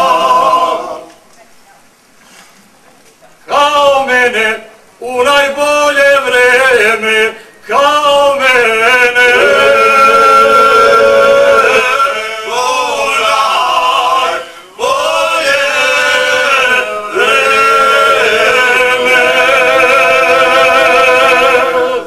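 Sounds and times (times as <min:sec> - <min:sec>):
men singing unaccompanied: 0:00.0 - 0:01.2, 0:03.5 - 0:22.0.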